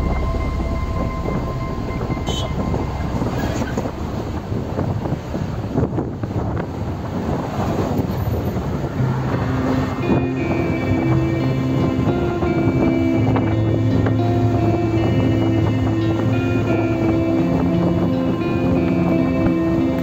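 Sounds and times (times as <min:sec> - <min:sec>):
vehicle road and wind noise: 0:00.0 - 0:20.0.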